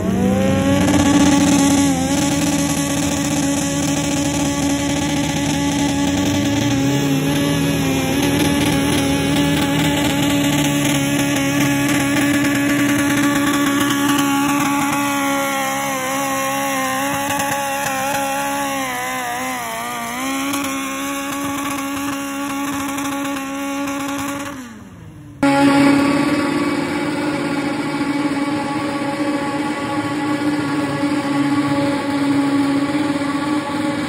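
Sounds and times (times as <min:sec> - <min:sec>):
tractor engine running at high revs: 0:00.0 - 0:34.0.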